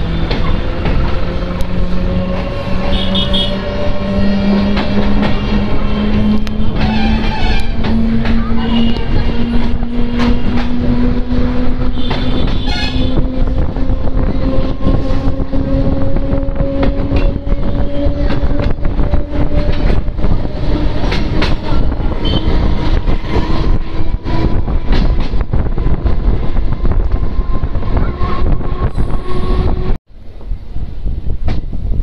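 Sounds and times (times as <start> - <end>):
wheels clicking over rail joints: 0.0 - 29.2
train rumble: 0.0 - 32.0.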